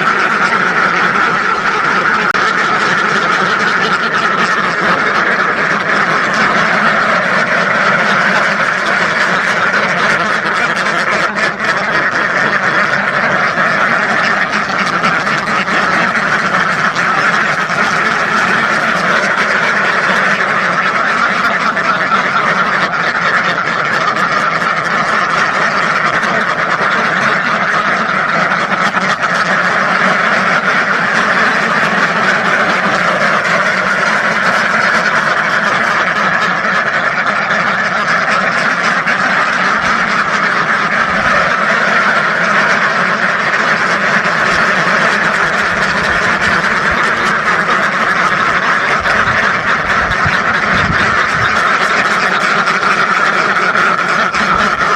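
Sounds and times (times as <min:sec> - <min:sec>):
flock of ducks quacking: 0:00.0 - 0:54.9.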